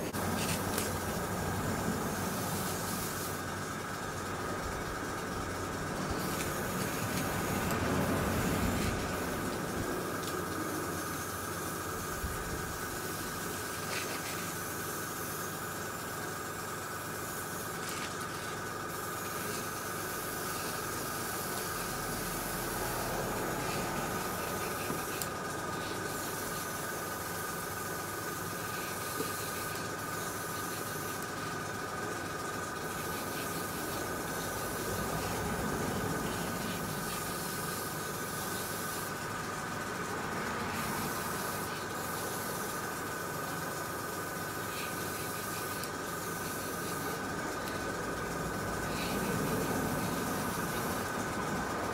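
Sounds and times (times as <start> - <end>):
airbrush air hiss: 0.0 - 51.6.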